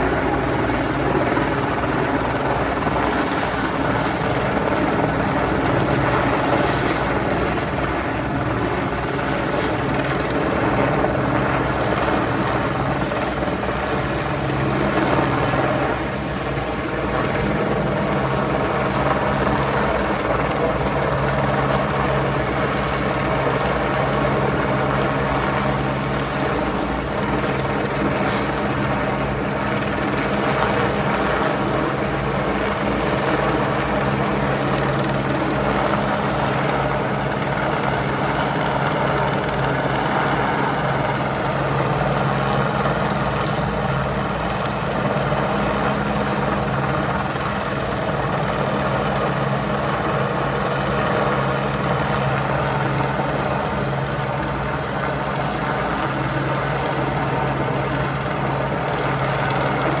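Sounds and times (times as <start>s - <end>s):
helicopter engine hum: 0.0s - 60.0s
helicopter rotor beat: 0.0s - 60.0s.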